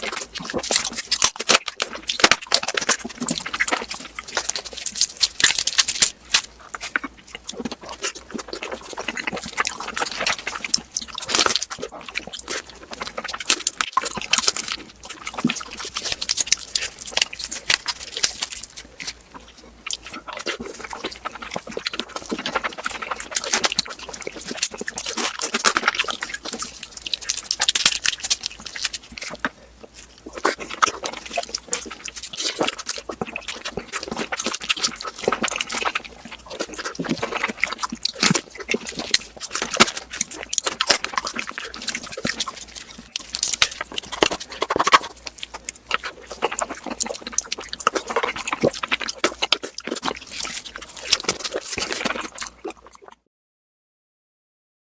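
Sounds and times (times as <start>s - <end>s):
crackling clicks and smacks: 0.0s - 53.2s
wet chewing and slurping: 0.0s - 53.3s.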